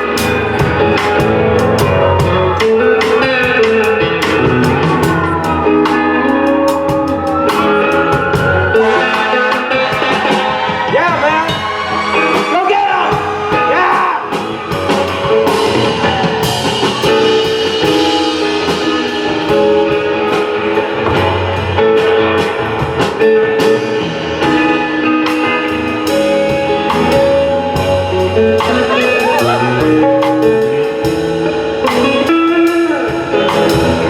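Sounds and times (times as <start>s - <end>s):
drum kit beat: 0.0s - 34.0s
guitar: 0.0s - 34.0s.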